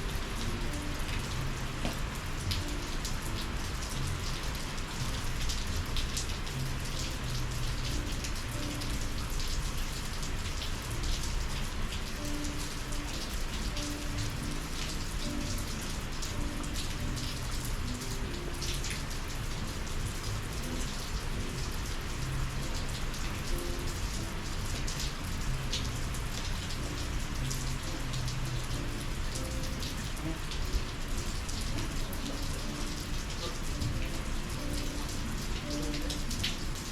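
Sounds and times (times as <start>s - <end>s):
rain falling: 0.0s - 36.9s.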